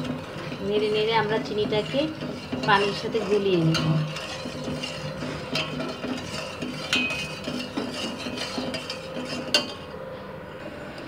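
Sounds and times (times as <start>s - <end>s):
metal spoon scraping pot: 0.0s - 10.0s.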